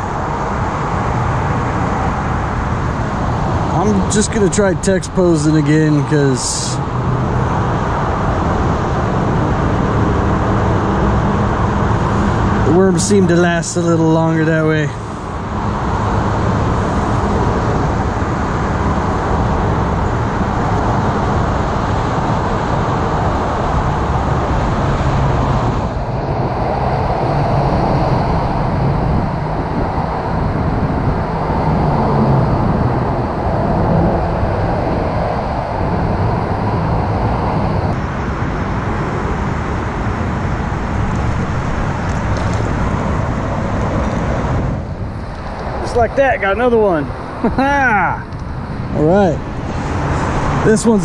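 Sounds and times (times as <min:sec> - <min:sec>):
road traffic roar: 0:00.0 - 0:51.0.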